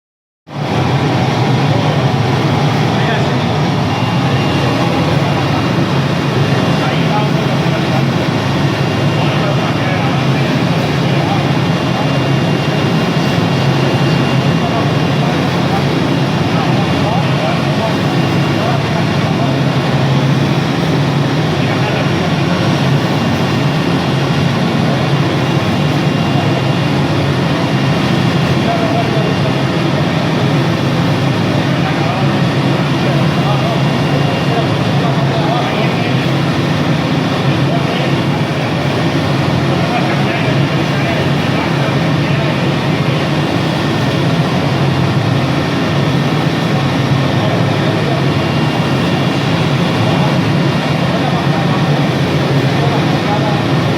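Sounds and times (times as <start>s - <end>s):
cnc router running: 0.5s - 53.9s
faint high whine: 0.5s - 53.9s.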